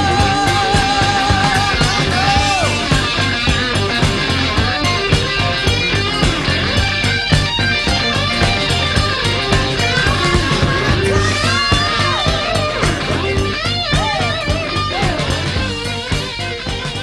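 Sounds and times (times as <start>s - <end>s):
lead electric guitar: 0.0s - 17.0s
steady drum beat: 0.0s - 17.0s.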